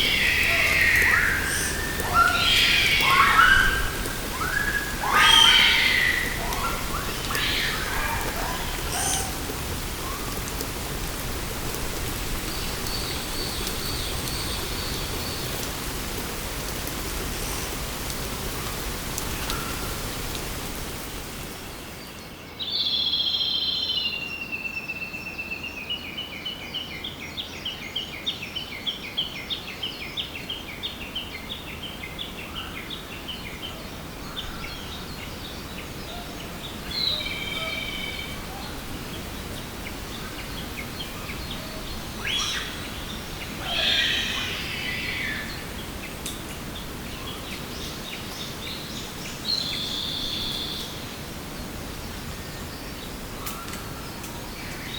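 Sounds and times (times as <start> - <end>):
songbird singing: 0.0 - 15.8, 21.8 - 54.9
steady background hiss: 0.0 - 54.9.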